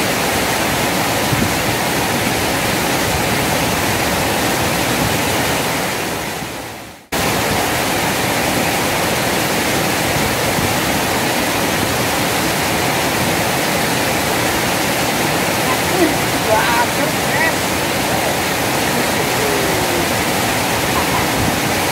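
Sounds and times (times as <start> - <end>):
fast river current: 0.0 - 21.9
water rushing over weir: 0.0 - 21.9.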